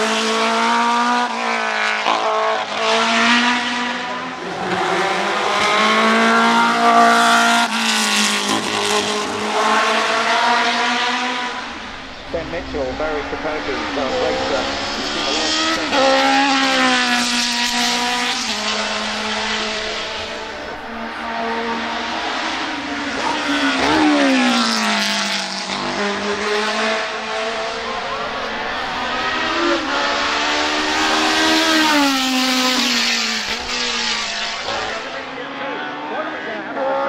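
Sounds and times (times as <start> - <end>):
racing car engine revving past: 0.0 - 37.0.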